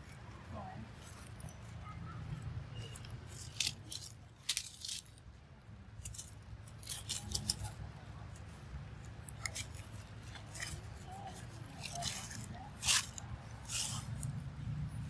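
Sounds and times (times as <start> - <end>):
dry leaves crackling and rustling: 0.0 - 5.4, 6.0 - 15.0.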